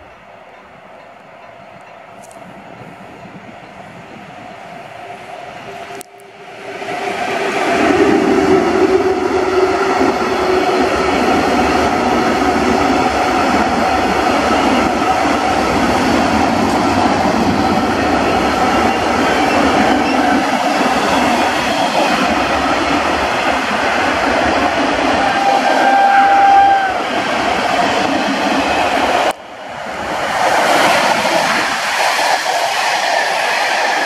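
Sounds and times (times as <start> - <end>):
steel train wheels on rails: 0.0 - 34.0.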